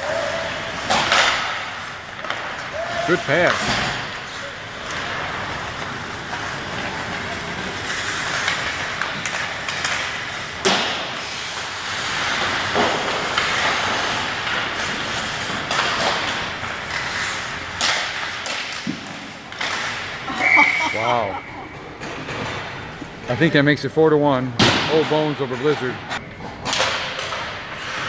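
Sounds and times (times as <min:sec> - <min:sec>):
hockey sticks knocking puck: 0:00.0 - 0:20.3, 0:21.7 - 0:23.2, 0:24.6 - 0:28.0
ice hockey skating and play: 0:00.0 - 0:28.0.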